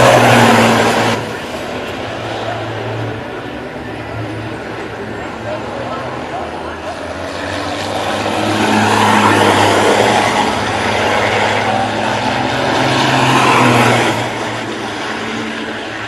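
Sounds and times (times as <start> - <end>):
vehicle engines passing by: 0.0 - 16.0.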